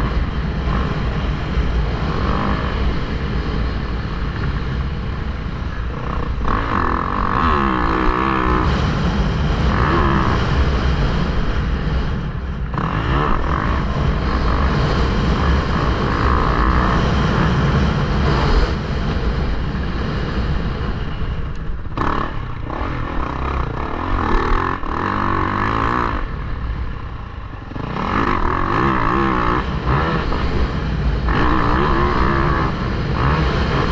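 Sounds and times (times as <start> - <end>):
dirt bike engine revving: 0.0 - 33.9
wind rumble on microphone: 0.0 - 33.9.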